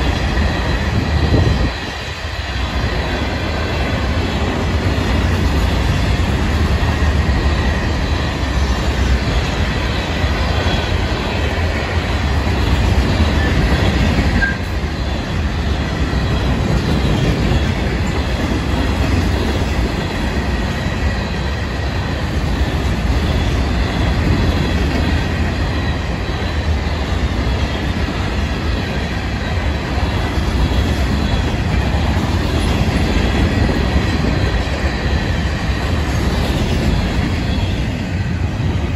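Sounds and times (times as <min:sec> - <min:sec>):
train wheels rumbling and clattering: 0:00.0 - 0:38.9.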